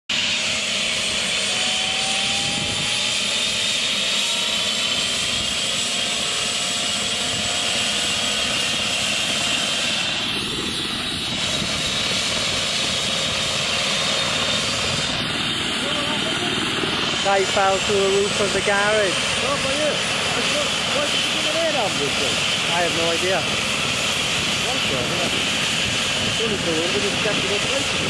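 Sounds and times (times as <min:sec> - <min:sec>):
helicopter rotor rushing: 0:00.1 - 0:28.0
helicopter turbine whine: 0:00.1 - 0:28.0.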